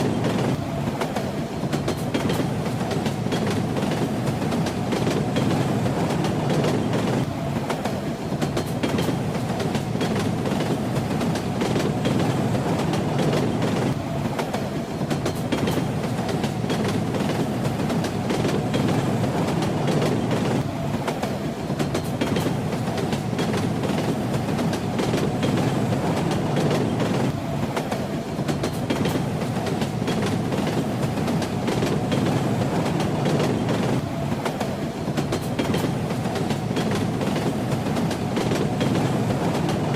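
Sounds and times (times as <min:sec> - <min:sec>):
train carriage rumbling: 0:00.0 - 0:39.9
wheels clacking over rail joints: 0:00.0 - 0:39.9.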